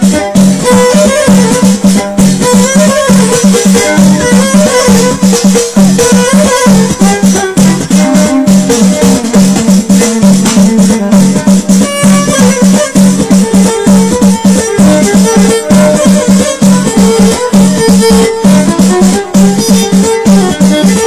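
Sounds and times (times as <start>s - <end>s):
folk music through a speaker: 0.0s - 21.0s.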